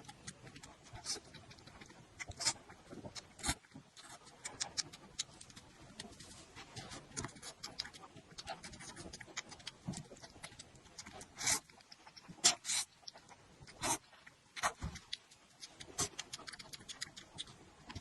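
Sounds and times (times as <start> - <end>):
wet chewing clicks and smacks: 0.0 - 18.0.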